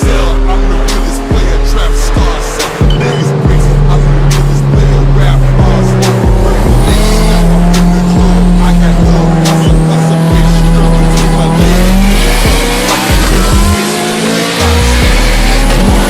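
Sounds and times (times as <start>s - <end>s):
car engines running hard: 0.0s - 16.0s
loud music: 0.0s - 16.0s.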